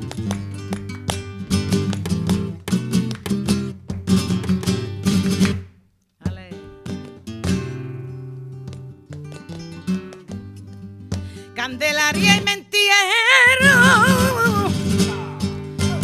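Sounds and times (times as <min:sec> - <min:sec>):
flamenco guitar playing: 0:00.0 - 0:16.0.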